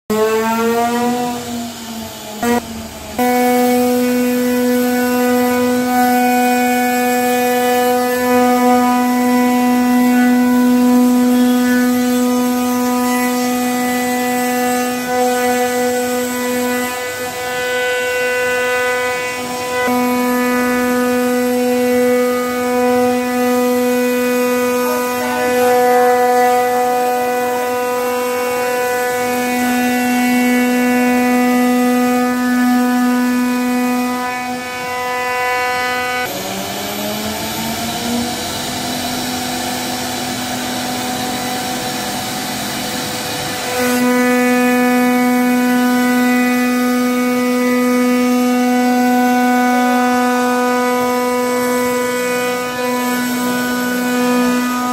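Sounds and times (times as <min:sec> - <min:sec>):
router spindle whining: 0:00.1 - 0:54.9.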